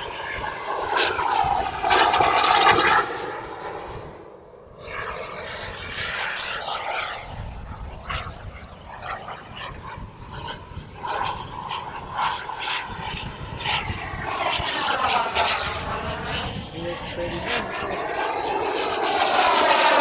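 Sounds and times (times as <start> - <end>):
model jet engine flying past: 0.0 - 20.0.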